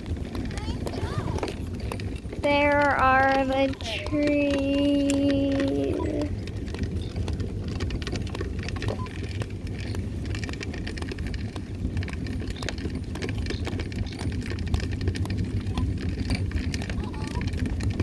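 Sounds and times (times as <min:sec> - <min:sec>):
wheels rolling over rough path: 0:00.0 - 0:18.0.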